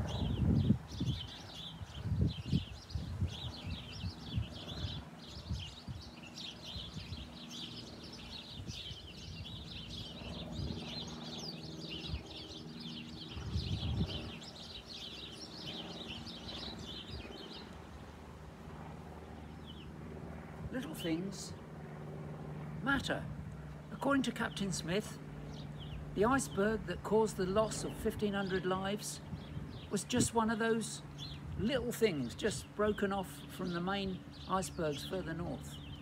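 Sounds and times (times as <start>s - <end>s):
small birds twittering: 0.0s - 36.0s.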